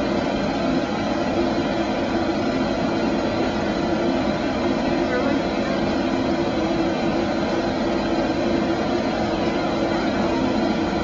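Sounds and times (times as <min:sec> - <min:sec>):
machine droning: 0:00.0 - 0:11.0.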